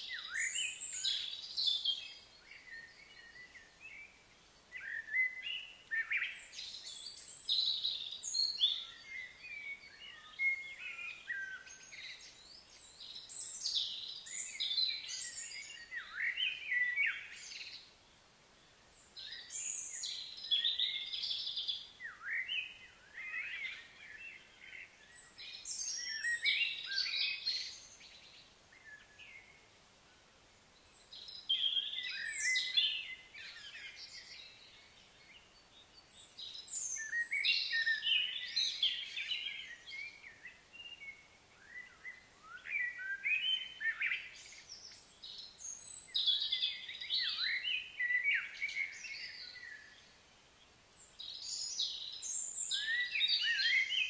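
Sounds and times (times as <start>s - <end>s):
birds chirping and singing: 0.0s - 4.2s, 4.8s - 17.9s, 19.0s - 29.6s, 30.9s - 50.2s, 50.9s - 54.0s.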